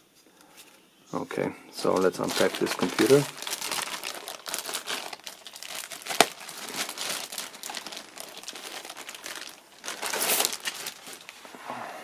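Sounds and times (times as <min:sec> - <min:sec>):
plastic wrap crinkling: 0:01.8 - 0:11.5.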